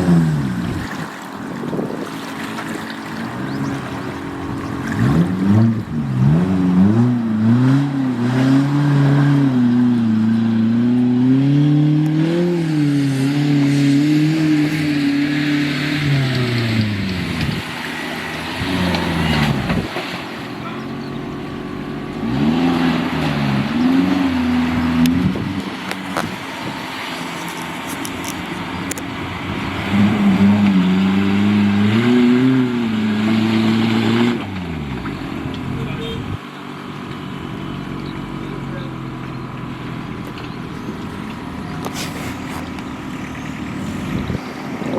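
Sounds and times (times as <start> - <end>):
off-road vehicle engine revving: 0.0 - 44.9.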